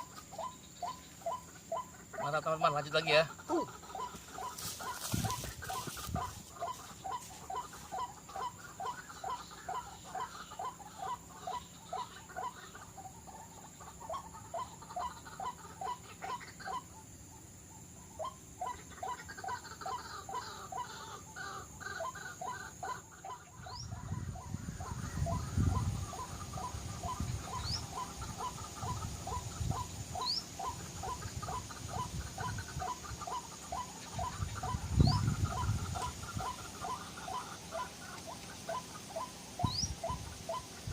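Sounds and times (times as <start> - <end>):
waterhen calls: 0.0 - 16.9, 18.1 - 40.9.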